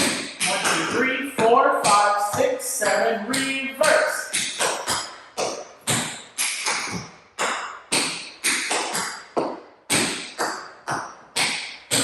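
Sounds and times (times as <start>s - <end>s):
tap shoes striking floor: 0.0s - 12.0s.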